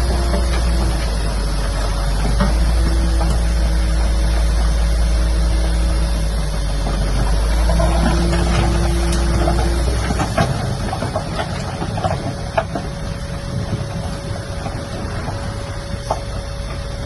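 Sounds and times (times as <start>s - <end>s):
heavy machine engine rumbling: 0.0s - 17.0s.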